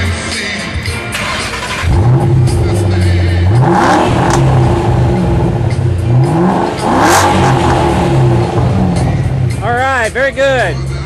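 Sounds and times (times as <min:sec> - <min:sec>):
car engine revving: 0:01.1 - 0:11.0.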